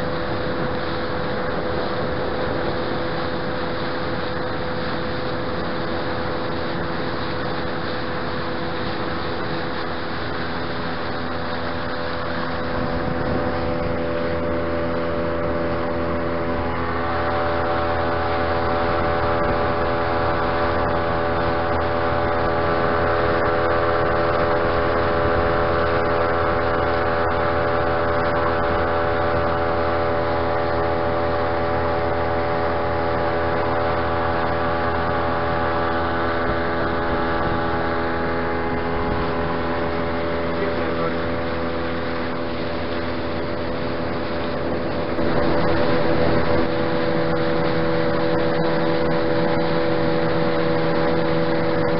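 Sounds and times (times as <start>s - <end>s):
outboard motor at speed: 0.0s - 51.9s.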